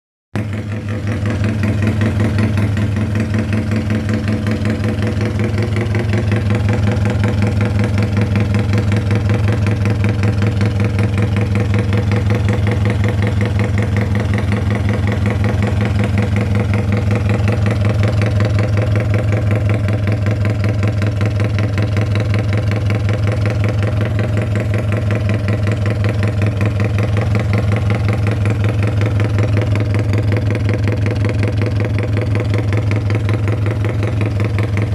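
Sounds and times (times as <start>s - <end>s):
small engine idling: 0.4s - 34.9s.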